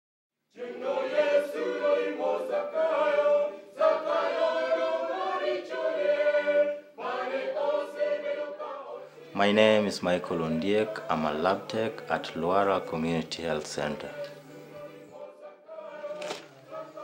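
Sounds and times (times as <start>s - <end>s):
choir singing in harmony: 0.5s - 17.0s.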